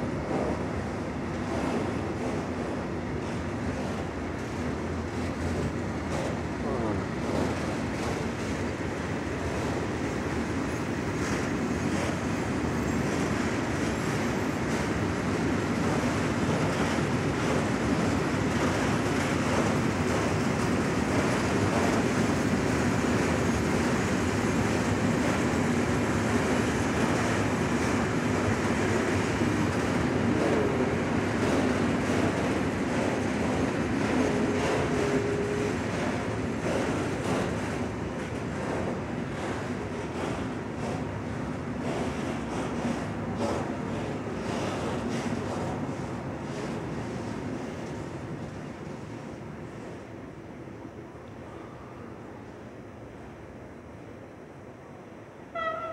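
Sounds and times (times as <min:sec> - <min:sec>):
freight train wheels on rails: 0:00.0 - 0:55.9.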